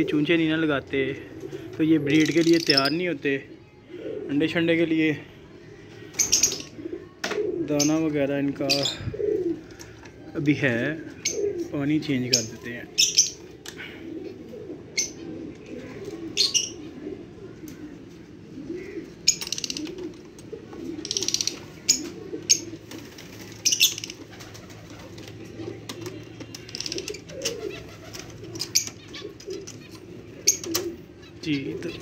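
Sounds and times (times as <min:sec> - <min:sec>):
lovebirds chirping: 0:00.0 - 0:32.0
pigeons cooing: 0:00.0 - 0:32.0.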